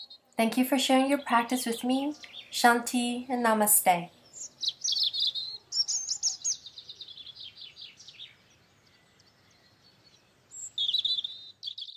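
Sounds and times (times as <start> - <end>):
small songbird singing: 0.0 - 11.9.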